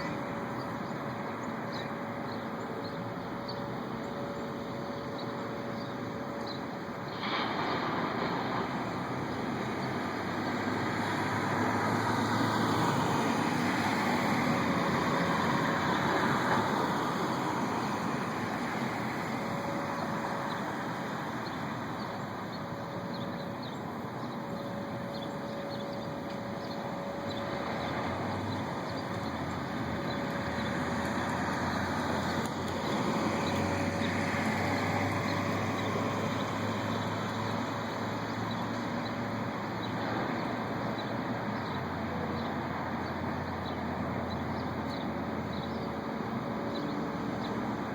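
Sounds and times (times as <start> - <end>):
distant droning rumble: 0.0 - 47.9.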